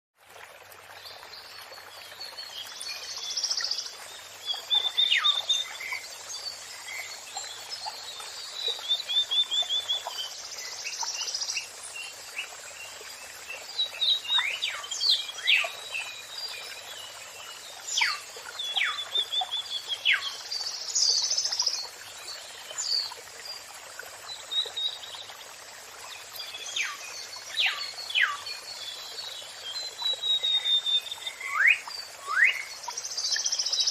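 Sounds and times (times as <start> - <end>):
running water rushing: 0.2 - 33.9
songbirds singing: 1.0 - 33.9.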